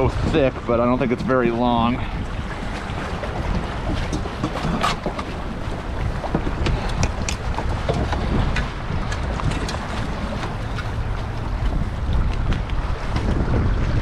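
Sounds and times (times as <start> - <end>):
water around kayak: 0.0 - 14.0
wind buffeting microphone: 0.0 - 14.0.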